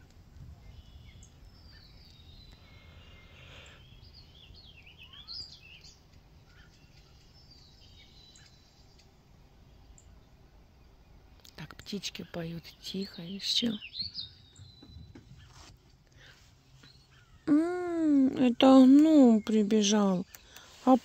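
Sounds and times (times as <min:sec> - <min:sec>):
faint low rumble: 0:00.0 - 0:21.0
songbirds singing: 0:00.0 - 0:21.0.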